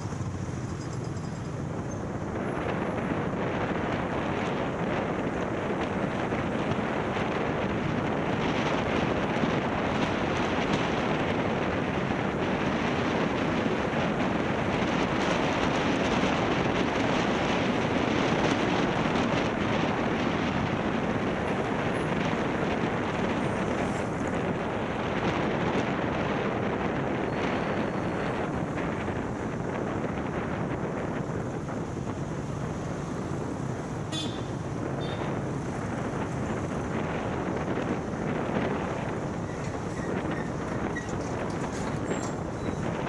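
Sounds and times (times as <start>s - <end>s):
road and traffic noise: 0.0s - 43.0s
wind rushing over microphone: 0.0s - 43.0s.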